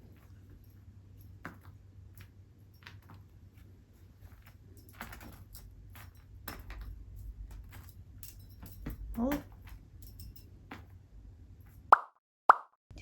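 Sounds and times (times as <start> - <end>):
faint low hum: 0.0 - 11.8.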